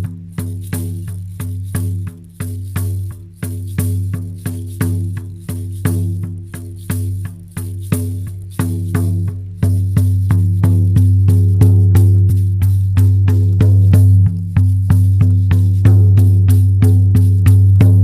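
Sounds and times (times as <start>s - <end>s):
frame drum beating: 0.0s - 18.0s.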